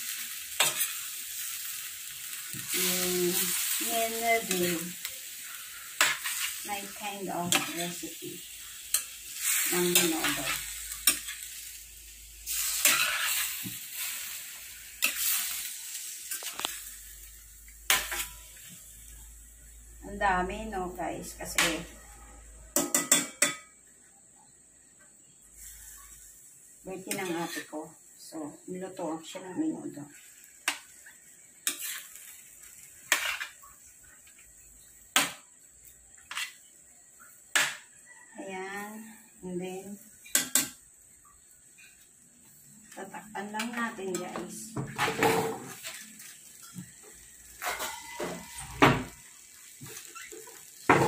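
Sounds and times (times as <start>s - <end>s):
meat sizzling in a frying pan: 0.0s - 23.7s, 25.2s - 51.0s.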